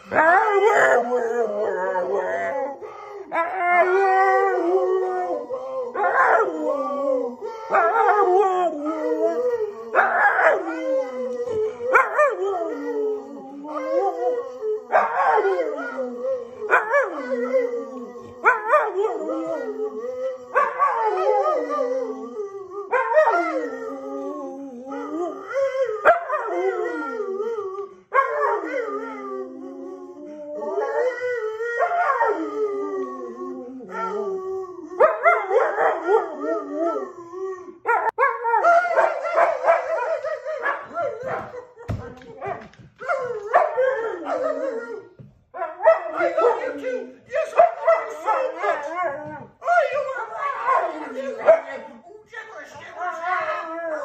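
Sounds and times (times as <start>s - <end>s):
man howling: 0.0s - 45.3s, 46.0s - 54.0s
dog howling: 0.0s - 54.0s.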